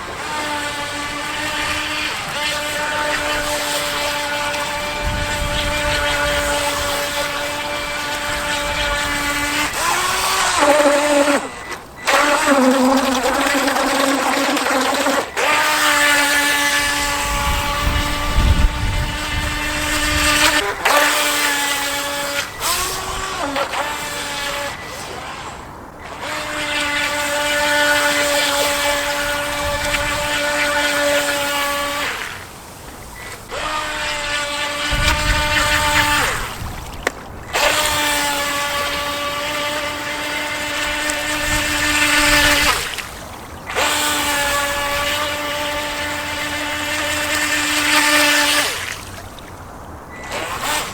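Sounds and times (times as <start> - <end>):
rc boat electric motor whining: 0.0 - 50.9.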